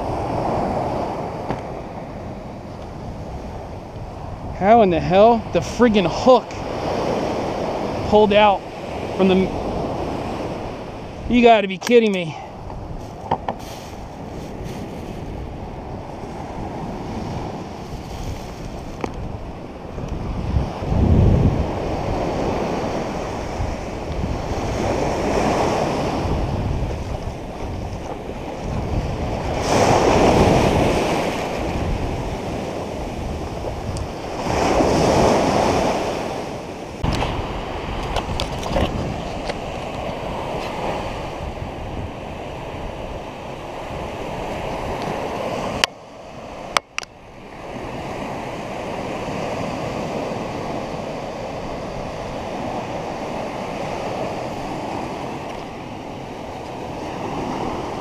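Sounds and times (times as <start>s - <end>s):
surf washing on sandy beach: 0.0s - 58.0s
waves breaking: 0.0s - 58.0s.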